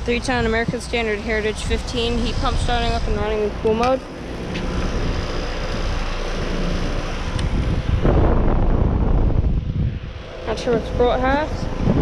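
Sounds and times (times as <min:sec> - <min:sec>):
heat pump unit rumbling: 0:00.0 - 0:12.0
wind buffeting microphone: 0:00.0 - 0:12.0.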